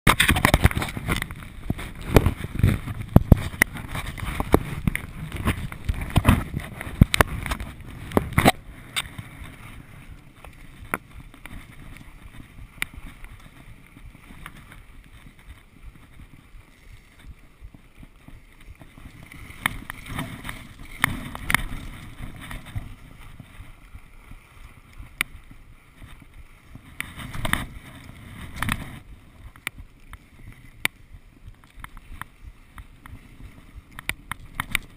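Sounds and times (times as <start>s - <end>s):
wind on camera: 0.0s - 34.9s
skis scraping over snow: 0.1s - 34.9s.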